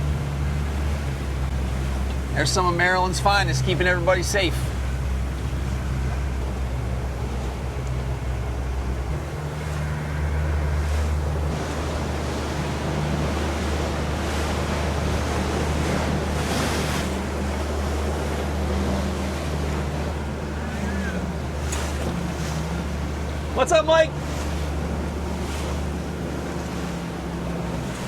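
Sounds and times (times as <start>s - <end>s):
motorboat engine drone: 0.0s - 28.0s
water rushing along hull: 0.0s - 28.0s
wind buffeting microphone: 0.0s - 28.0s.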